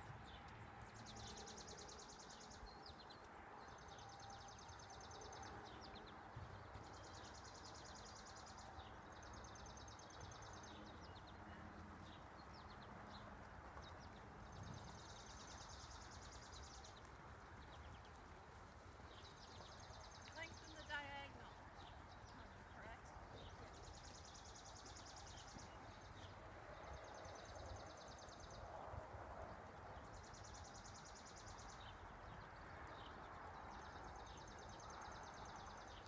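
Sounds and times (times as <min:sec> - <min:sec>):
faint outdoor noise: 0:00.0 - 0:36.0.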